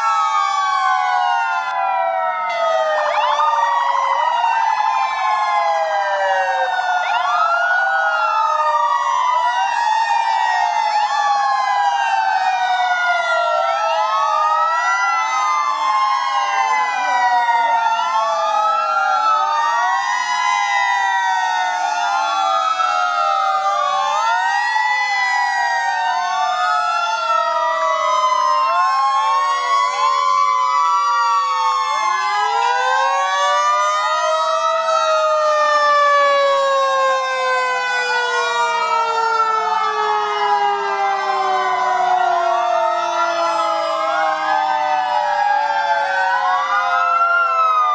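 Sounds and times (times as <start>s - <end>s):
fire engine sirens wailing: 0.0s - 47.9s.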